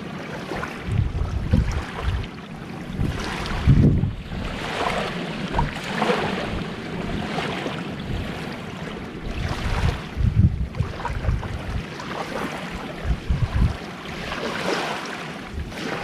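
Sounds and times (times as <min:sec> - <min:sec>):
sea waves washing on shore: 0:00.0 - 0:16.0
wind buffeting microphone: 0:00.4 - 0:16.0.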